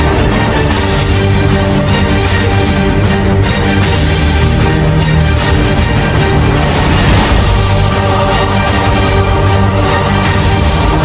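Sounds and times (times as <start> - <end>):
music playing loudly: 0.0 - 11.0.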